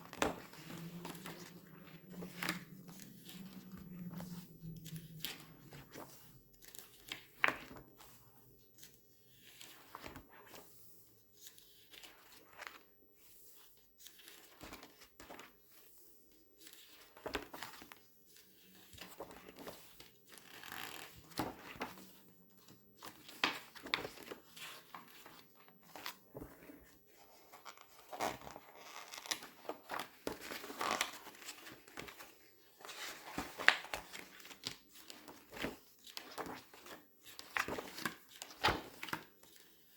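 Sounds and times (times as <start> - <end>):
paper pages crinkling: 0.0 - 10.8, 16.6 - 39.7.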